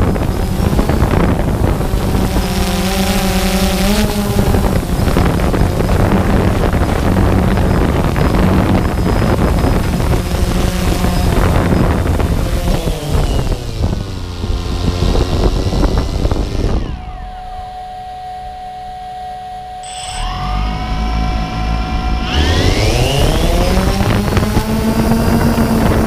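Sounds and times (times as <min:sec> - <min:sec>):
drone motors and propellers: 0:00.0 - 0:26.0.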